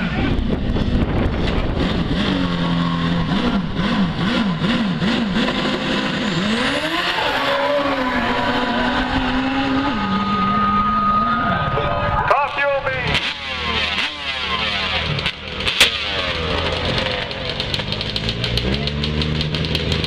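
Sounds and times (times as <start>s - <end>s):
exhaust crackles: 0.0s - 20.0s
motorcycle engine revving: 0.0s - 20.0s.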